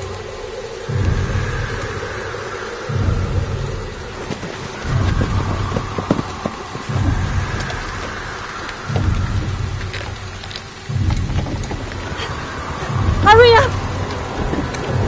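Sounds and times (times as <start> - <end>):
deep low throb: 0.0 - 15.0
sharp drips: 0.0 - 15.0
steady rain: 0.0 - 15.0.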